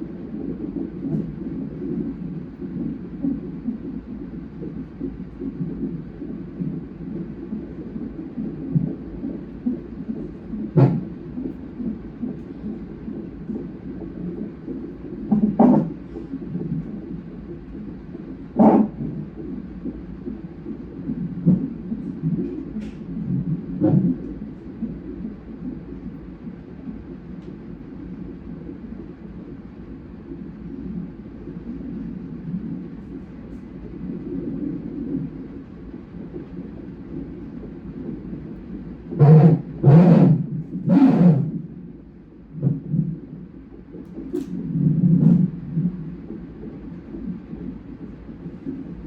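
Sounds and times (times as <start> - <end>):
fetal heartbeat whooshing: 0.0 - 49.0.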